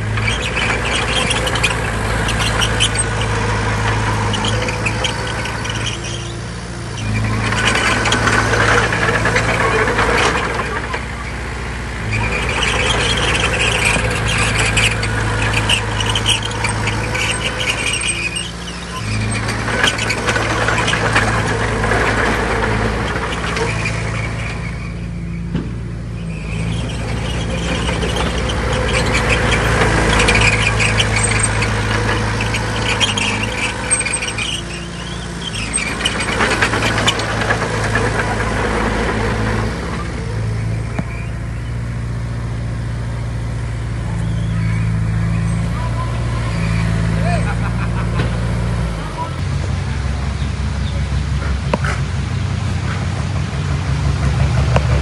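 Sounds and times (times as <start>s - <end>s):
metallic clatter and squeals: 0.0s - 49.5s, 50.3s - 55.0s
bulldozer diesel engine: 0.0s - 55.0s.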